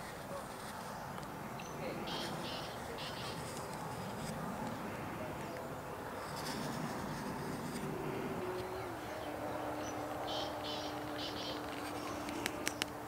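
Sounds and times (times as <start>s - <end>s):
engine drone: 1.4s - 13.0s.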